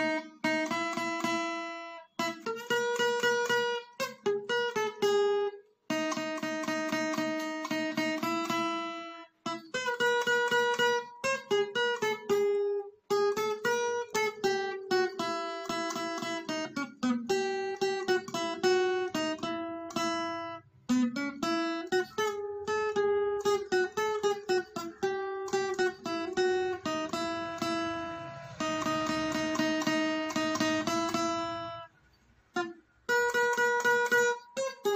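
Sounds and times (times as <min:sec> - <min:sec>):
acoustic guitar playing plucked melody: 0:00.0 - 0:34.9.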